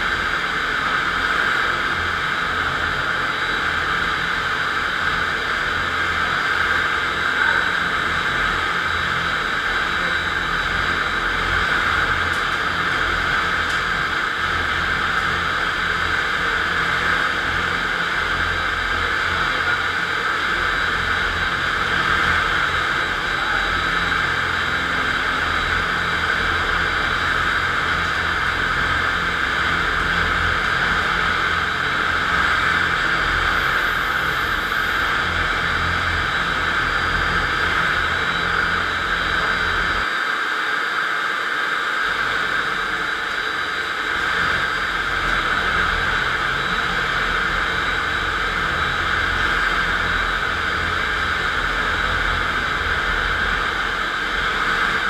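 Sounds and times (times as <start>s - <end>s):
concrete floor grinder whirring: 0.0s - 55.0s.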